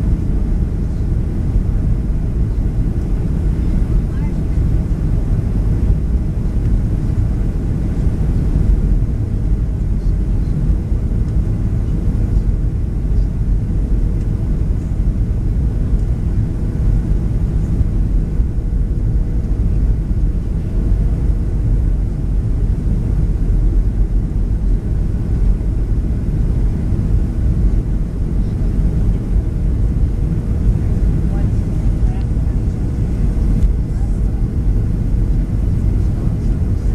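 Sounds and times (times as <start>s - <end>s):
airplane cabin engine rumble: 0.0s - 36.9s
faint steady hum: 0.0s - 36.9s.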